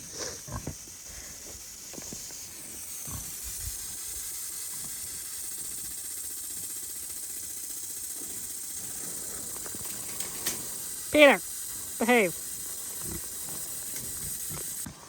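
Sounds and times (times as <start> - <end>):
hose spraying mist: 0.0 - 15.0.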